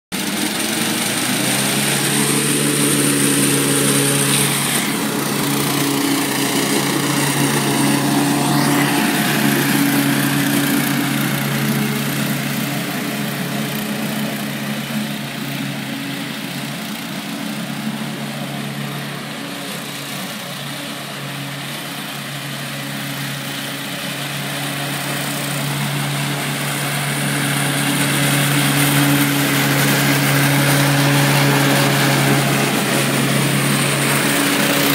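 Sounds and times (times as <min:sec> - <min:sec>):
lawn mower engine running: 0:00.1 - 0:34.9.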